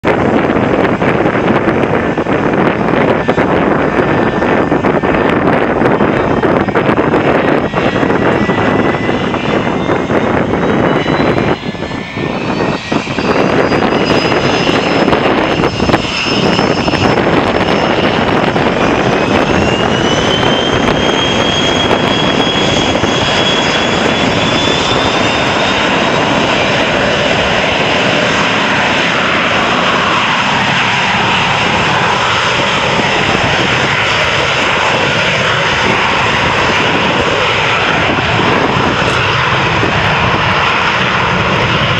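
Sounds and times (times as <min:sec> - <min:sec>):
jet engines roaring at takeoff: 0:00.0 - 0:41.9.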